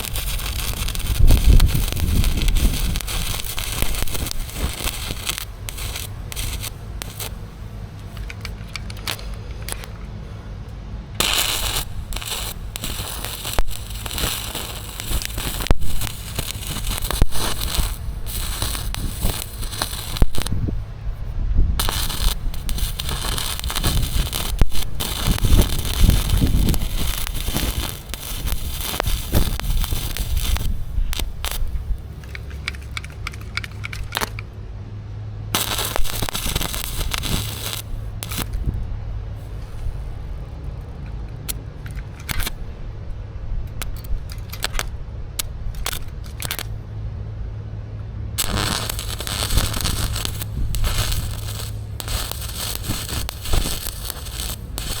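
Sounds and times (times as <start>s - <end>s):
arc welding crackling: 0.0s - 10.1s, 11.2s - 34.5s, 35.5s - 38.8s, 41.4s - 42.6s, 43.7s - 46.8s, 48.4s - 55.0s.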